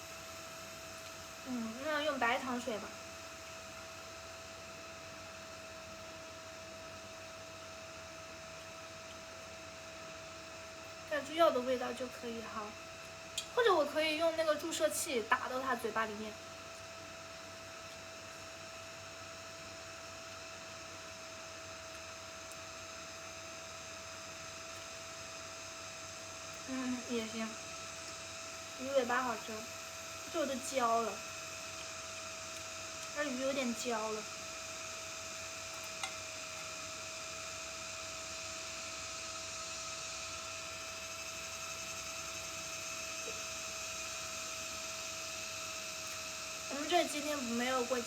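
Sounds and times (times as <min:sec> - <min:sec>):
electrical hum with whine and hiss: 0:00.0 - 0:48.0.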